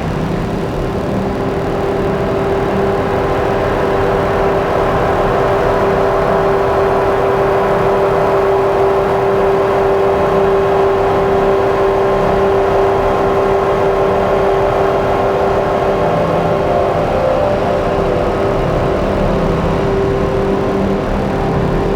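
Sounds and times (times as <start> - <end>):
electronic synthesizer drone: 0.0 - 21.9.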